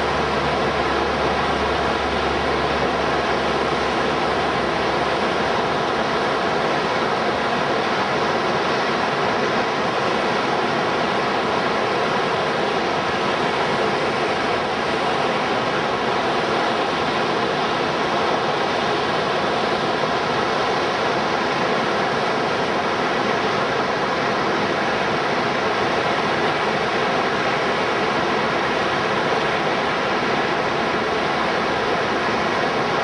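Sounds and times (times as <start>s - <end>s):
whitewater rapids roaring: 0.0s - 33.0s.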